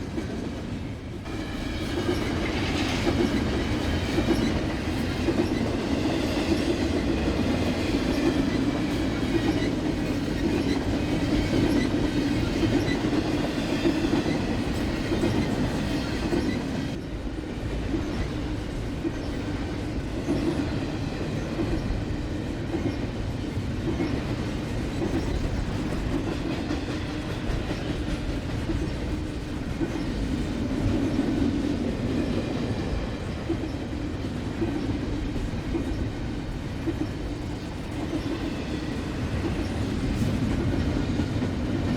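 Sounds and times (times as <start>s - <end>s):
freight train rumbling: 0.0s - 41.9s.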